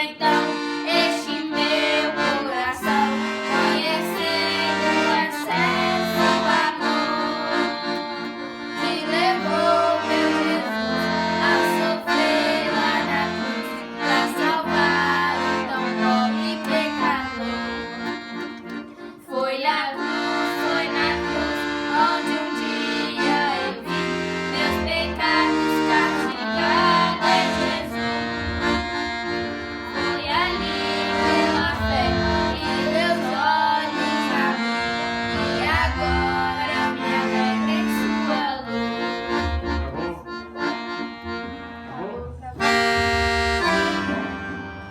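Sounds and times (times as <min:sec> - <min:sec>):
accordion playing worship tune: 0:00.0 - 0:44.9.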